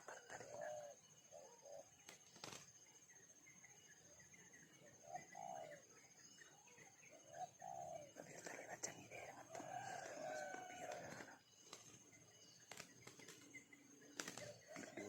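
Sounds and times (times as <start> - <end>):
bird cooing: 0.0 - 2.6, 4.7 - 12.1, 12.7 - 15.0.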